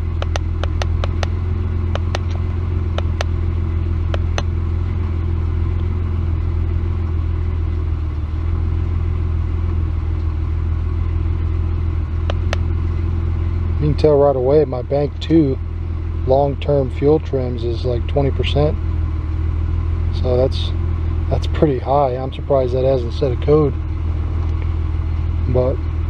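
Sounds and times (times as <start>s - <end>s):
car engine rough idle: 0.0s - 26.0s.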